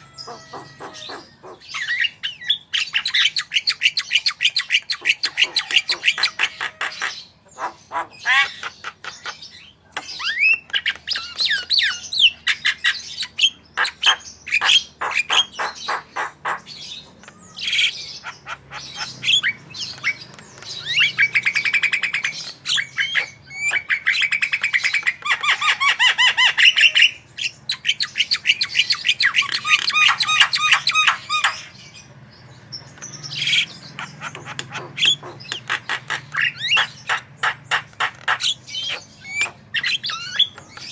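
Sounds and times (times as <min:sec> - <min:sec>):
myna bird singing: 0:00.0 - 0:40.9.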